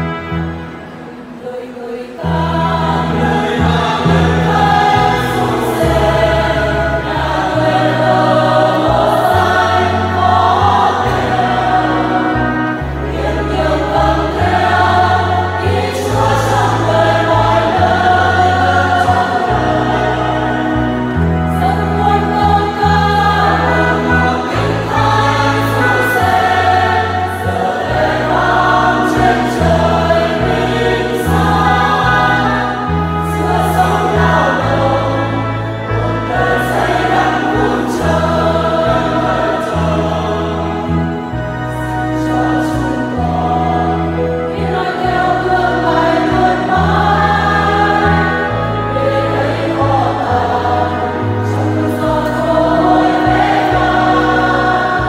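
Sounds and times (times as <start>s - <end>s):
choir singing a hymn: 0.0s - 55.0s
organ: 2.2s - 55.0s.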